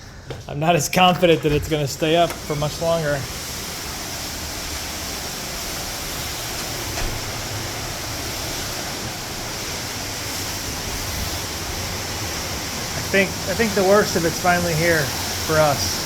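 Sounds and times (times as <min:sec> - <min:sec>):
hurricane wind: 0:00.8 - 0:16.0
heavy rain: 0:01.8 - 0:16.0.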